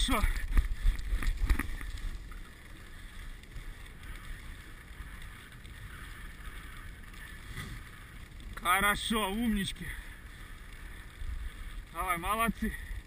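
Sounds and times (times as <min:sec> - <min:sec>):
sled runners hissing over snow: 0:00.0 - 0:13.0.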